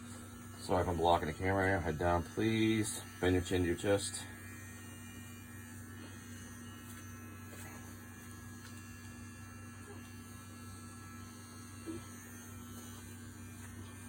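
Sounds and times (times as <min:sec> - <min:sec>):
electric trimmer humming: 0:00.0 - 0:14.0.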